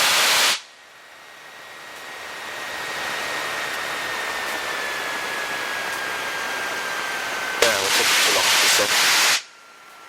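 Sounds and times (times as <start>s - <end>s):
aircraft cabin engine and airflow: 0.0s - 10.0s
thin high whine: 0.0s - 10.0s.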